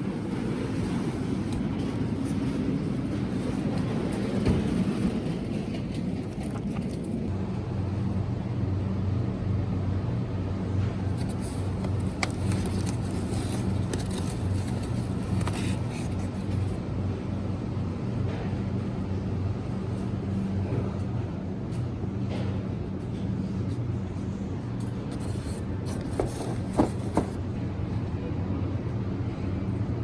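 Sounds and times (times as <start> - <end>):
low rumble with even hum: 0.0 - 30.0.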